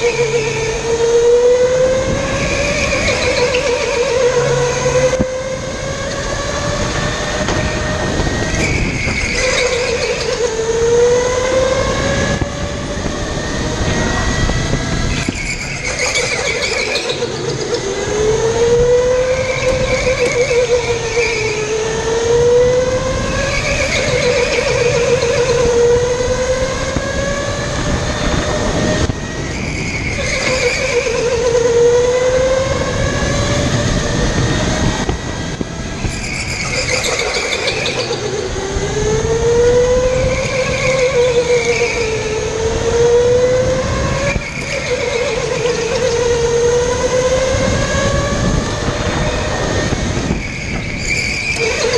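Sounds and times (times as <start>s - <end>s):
electric go-kart motor whining: 0.0s - 51.9s
tyre and track noise: 0.0s - 51.9s.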